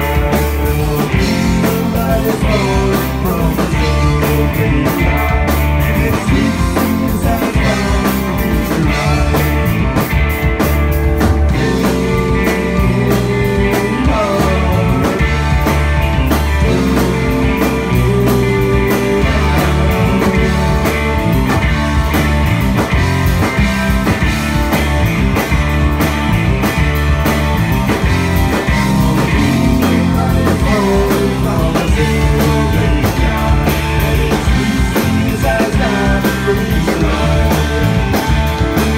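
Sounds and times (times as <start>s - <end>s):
electric bass: 0.0s - 38.9s
electric guitar: 0.0s - 38.9s
rock band playing live: 0.0s - 38.9s.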